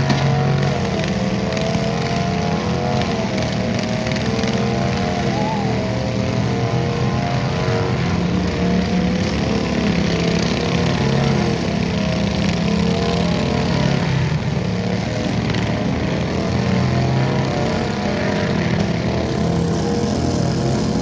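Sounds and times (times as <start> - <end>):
garden tractor engine droning: 0.0 - 21.0.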